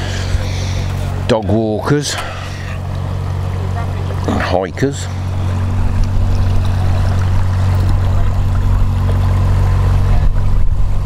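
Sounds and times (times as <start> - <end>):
boat diesel engine running: 0.0 - 11.0.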